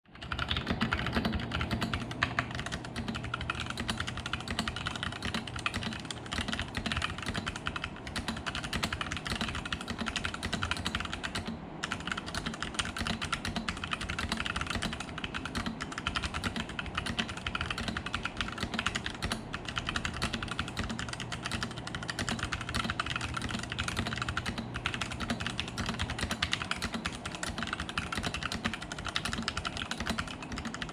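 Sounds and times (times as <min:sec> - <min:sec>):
fast typing on mechanical keyboard: 0:00.1 - 0:30.9.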